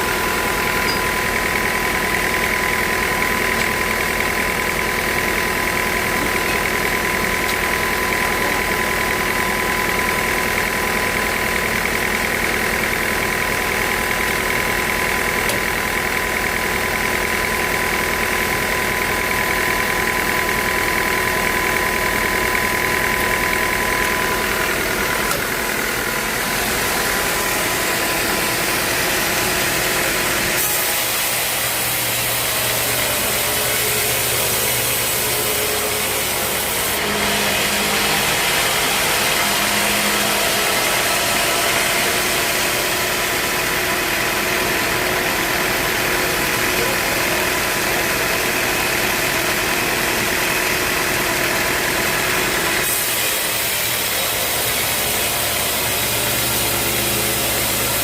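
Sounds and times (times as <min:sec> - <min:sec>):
sawmill motor running: 0:00.0 - 0:58.0.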